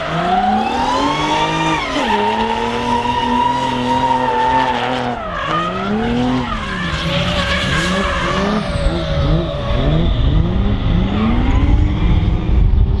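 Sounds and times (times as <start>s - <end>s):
diesel engine revving: 0.0s - 12.9s.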